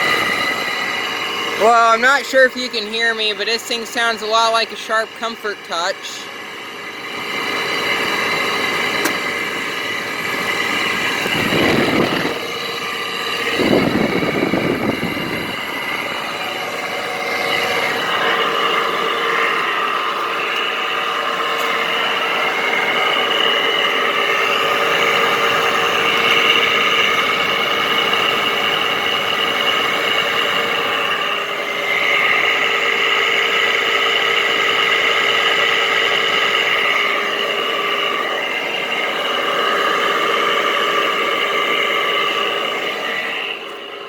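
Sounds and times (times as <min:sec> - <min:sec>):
high whining tones: 0:00.0 - 0:44.0
window air conditioner humming: 0:00.0 - 0:44.0.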